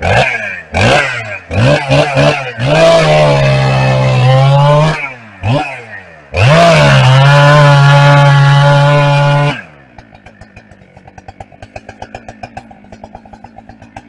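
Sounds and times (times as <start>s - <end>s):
chainsaw revving and idling: 0.0s - 14.0s.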